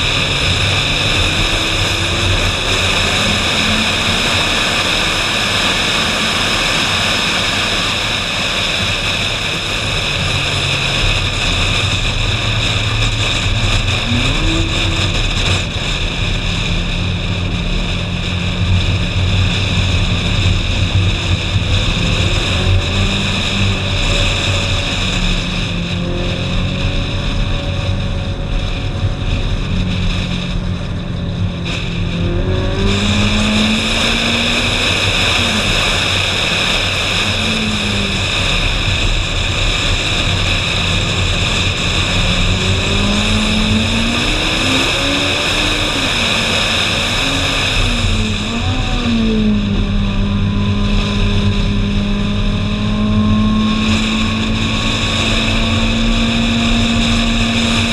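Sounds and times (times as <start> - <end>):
sports car engine revving: 0.0 - 57.9
wind rushing over microphone: 0.0 - 57.9.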